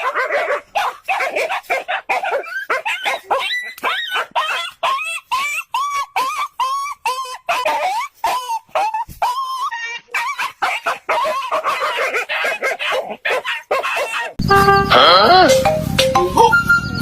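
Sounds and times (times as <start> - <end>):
dog barking in high yips: 0.0 - 14.4.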